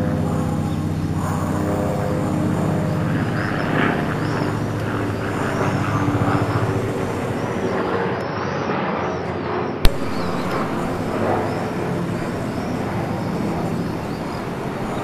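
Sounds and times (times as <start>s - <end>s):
engine droning with pulsing beat: 0.0s - 8.9s, 9.8s - 15.0s.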